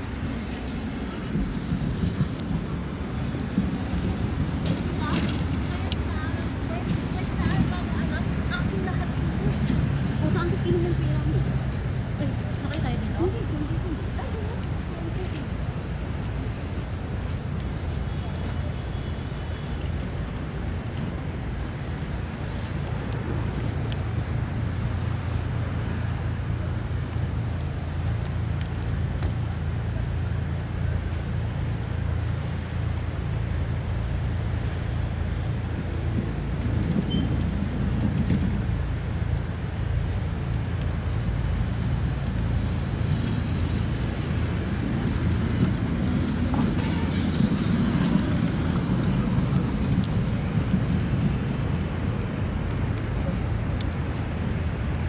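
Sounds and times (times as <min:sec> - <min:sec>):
low traffic rumble: 0:00.0 - 0:55.0.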